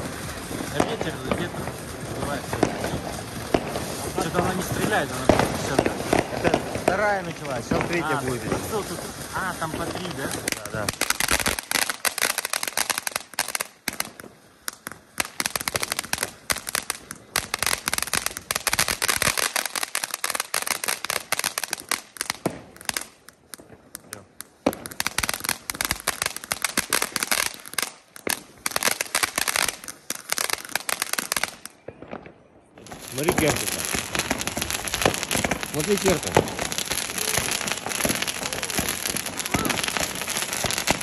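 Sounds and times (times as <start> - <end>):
firework crackling and popping: 0.0 - 41.0.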